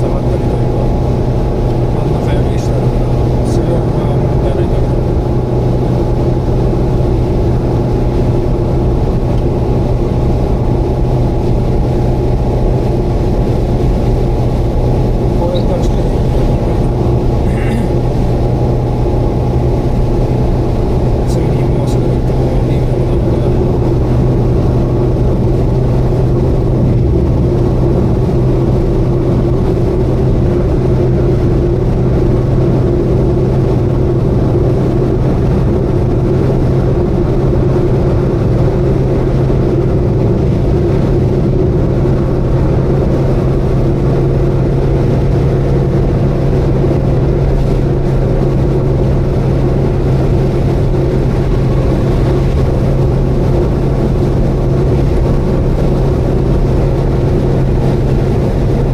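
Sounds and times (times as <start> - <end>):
car engine and road noise drone: 0.0 - 58.9.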